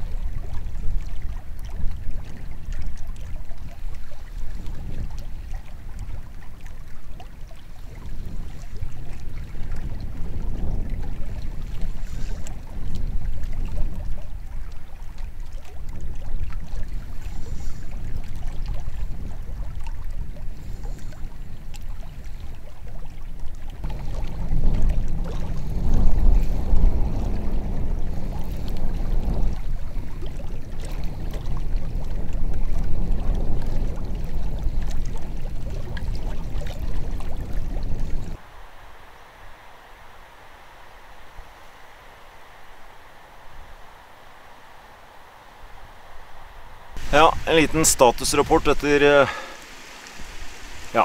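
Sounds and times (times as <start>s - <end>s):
wind buffeting microphone: 0.0s - 38.4s, 40.9s - 51.0s.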